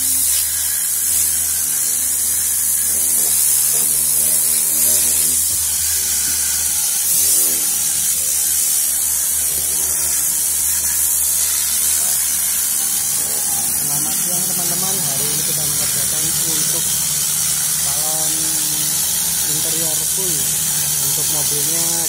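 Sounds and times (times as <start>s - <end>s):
compressed air hissing: 0.0s - 22.0s.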